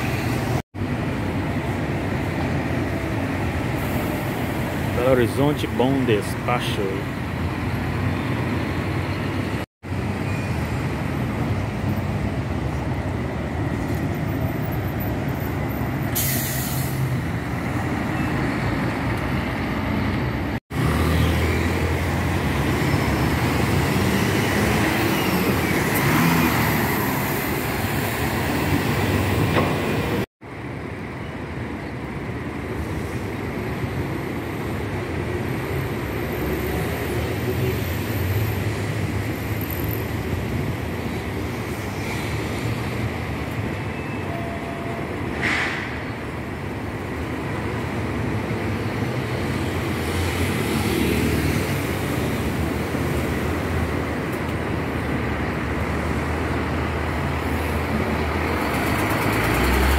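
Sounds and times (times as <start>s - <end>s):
buses and cars passing: 0.0s - 59.9s.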